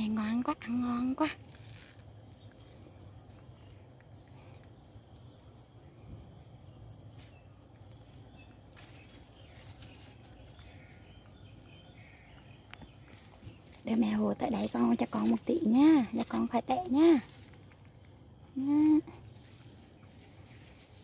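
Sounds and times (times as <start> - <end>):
faint insect trill: 0.0 - 21.0.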